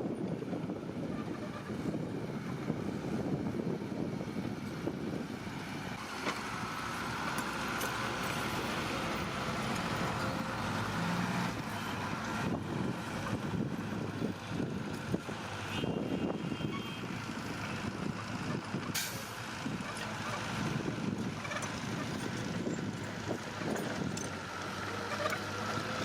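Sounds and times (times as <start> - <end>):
diesel machinery rumbling: 0.0 - 26.0.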